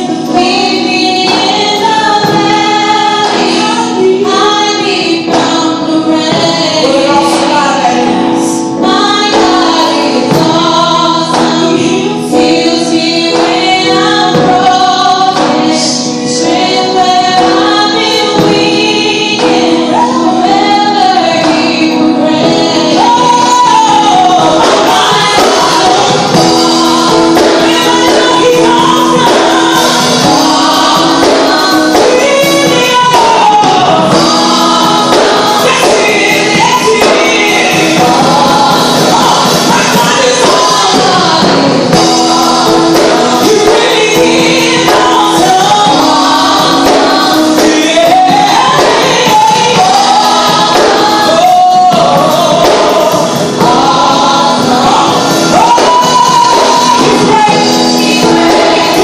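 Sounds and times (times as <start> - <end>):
backing singers: 0.0 - 59.0
held accompaniment chords: 0.0 - 59.0
woman singing lead: 0.0 - 59.0.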